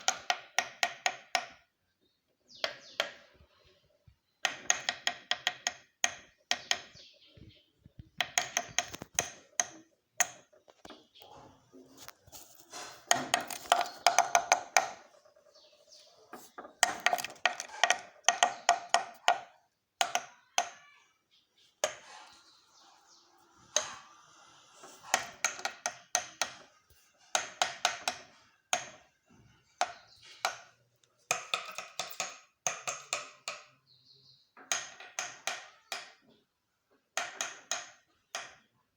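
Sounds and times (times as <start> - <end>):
woodpecker pecking: 0.0 - 1.7, 2.5 - 21.0, 21.7 - 33.7, 37.1 - 38.7.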